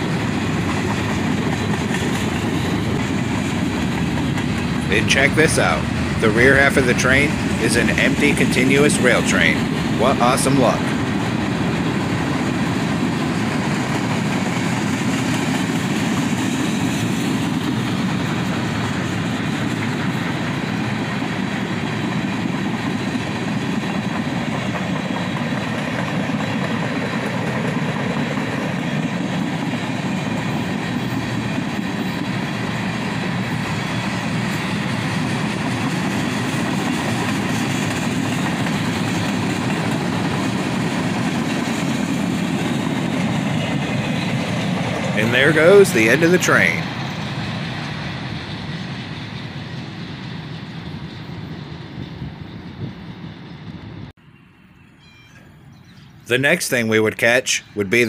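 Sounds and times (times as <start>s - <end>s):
train wheels rumbling on rail: 0.0s - 54.2s.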